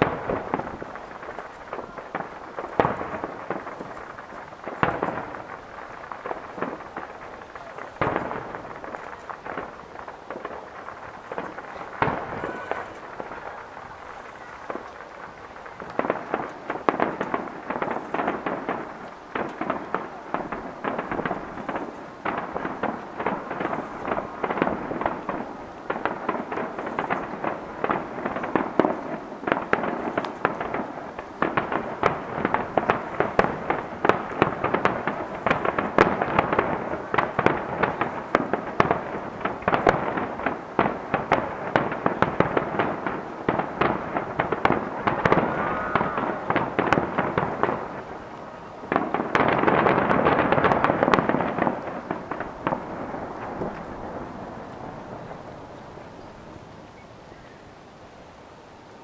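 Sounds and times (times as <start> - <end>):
distant firework shells bursting: 0.0 - 56.2.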